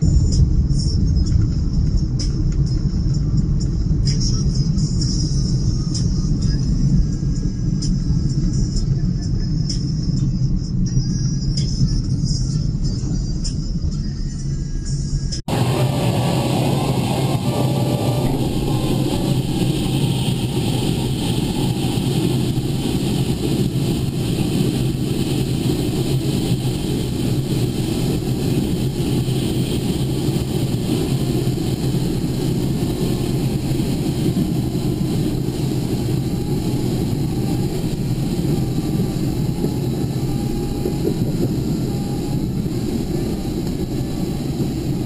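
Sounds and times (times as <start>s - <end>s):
vehicle engine and road noise: 0.0s - 45.0s.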